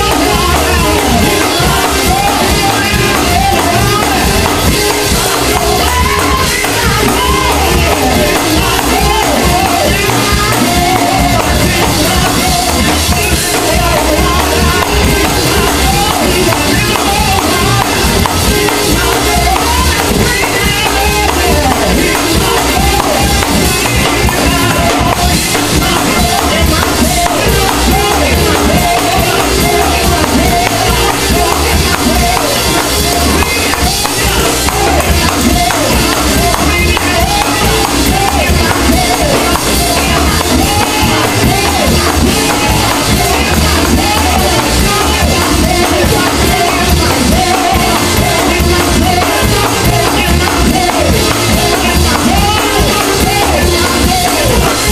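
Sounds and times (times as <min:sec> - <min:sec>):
drums: 0:00.0 - 0:54.9
gospel music with singing: 0:00.0 - 0:54.9
keyboard: 0:00.0 - 0:54.9
voices singing: 0:00.0 - 0:54.9.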